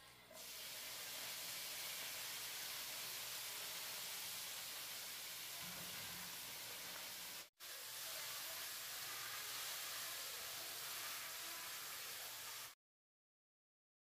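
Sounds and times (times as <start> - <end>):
greens sizzling in frying pan: 0.4 - 12.8.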